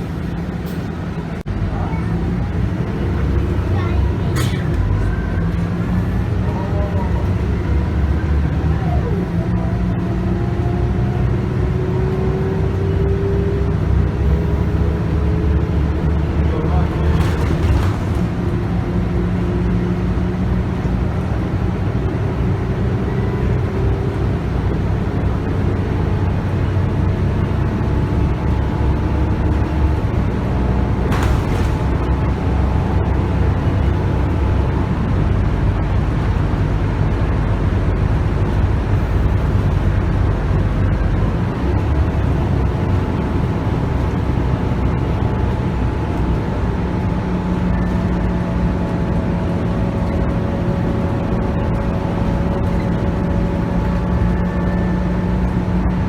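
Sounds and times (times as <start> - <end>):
bus diesel engine running: 0.0 - 56.0
road and tyre noise: 0.0 - 56.0.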